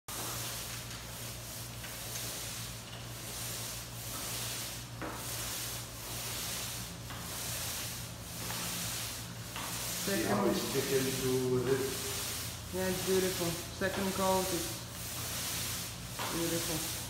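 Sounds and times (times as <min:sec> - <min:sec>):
paint roller swishing on concrete: 0:00.1 - 0:17.0.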